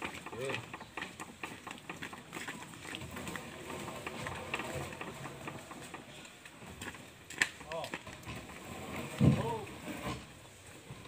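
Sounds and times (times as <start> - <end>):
logs knocking on wood: 0.0 - 10.2.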